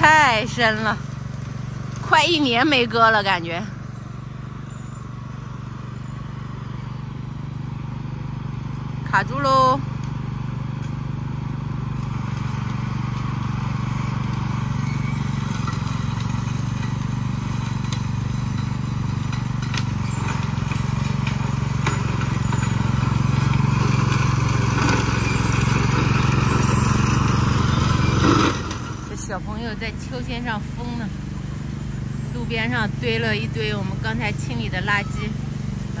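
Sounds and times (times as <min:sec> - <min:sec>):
riding lawn mower engine: 0:00.0 - 0:36.0.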